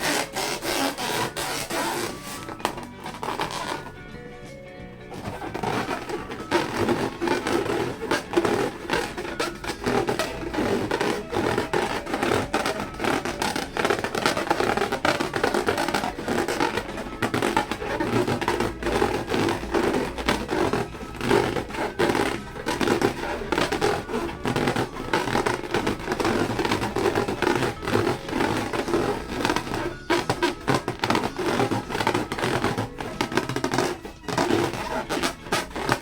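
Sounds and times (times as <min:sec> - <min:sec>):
balloons squeaking when rubbed: 0:00.0 - 0:36.0.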